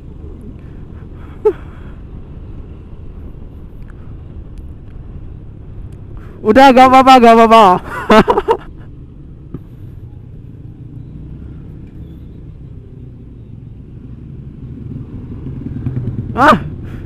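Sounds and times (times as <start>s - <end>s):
road rumble: 0.0s - 17.0s
wind: 0.0s - 17.0s.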